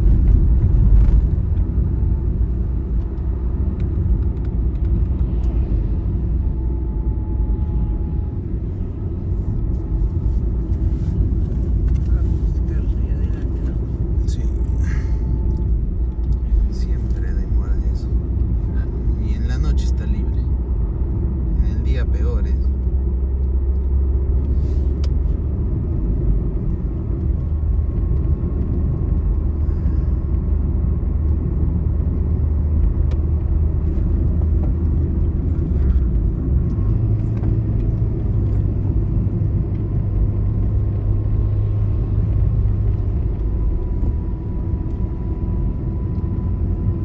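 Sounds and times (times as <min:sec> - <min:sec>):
vehicle engine hum: 0:00.0 - 0:47.0.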